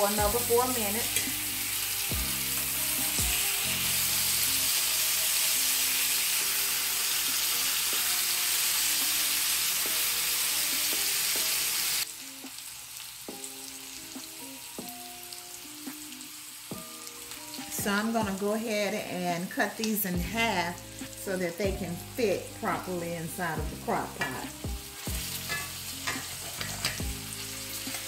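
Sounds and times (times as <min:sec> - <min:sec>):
meat sizzling in hot oil: 0:00.0 - 0:28.0.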